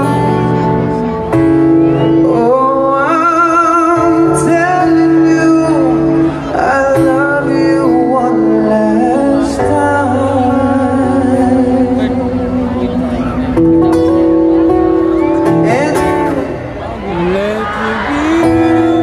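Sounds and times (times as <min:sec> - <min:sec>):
live band playing: 0:00.0 - 0:19.0
man singing long notes: 0:01.9 - 0:13.6, 0:15.3 - 0:19.0.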